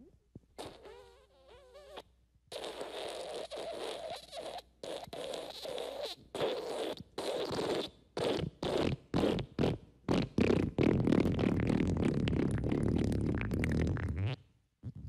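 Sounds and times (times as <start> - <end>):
fart sound effect: 0.6 - 15.0.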